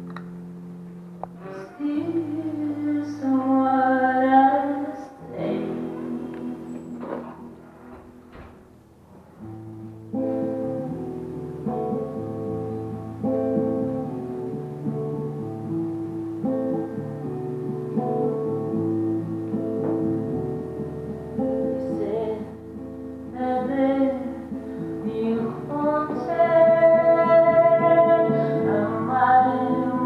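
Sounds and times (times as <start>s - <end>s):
electric guitar chords: 0.0s - 30.0s.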